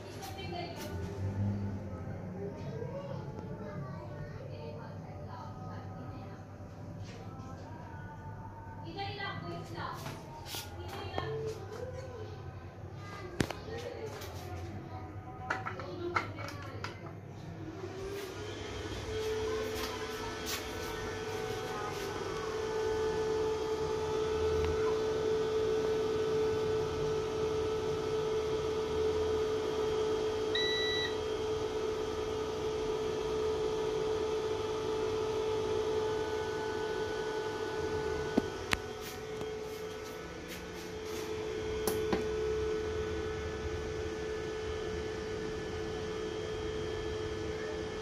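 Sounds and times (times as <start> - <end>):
inverter humming: 0.0 - 48.0.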